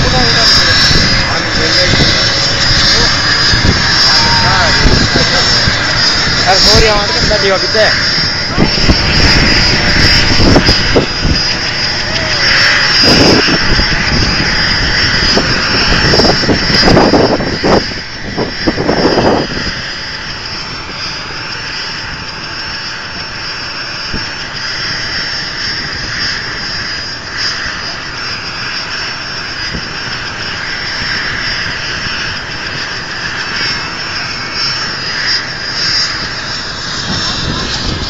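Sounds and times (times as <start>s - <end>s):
helicopter rotor noise: 0.0s - 38.0s
helicopter turbine whine: 0.0s - 38.0s.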